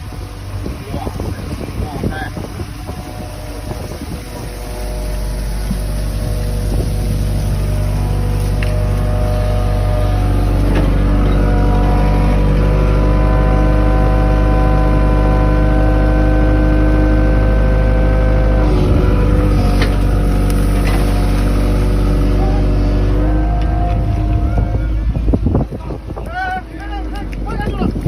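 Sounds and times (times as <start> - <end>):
motorboat engine running: 0.0 - 28.0.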